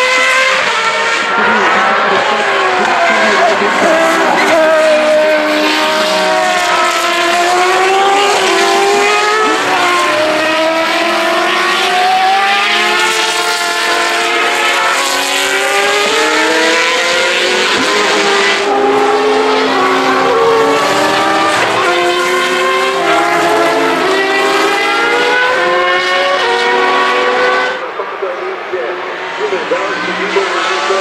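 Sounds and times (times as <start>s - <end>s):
racing car engines high-revving: 0.0s - 31.0s.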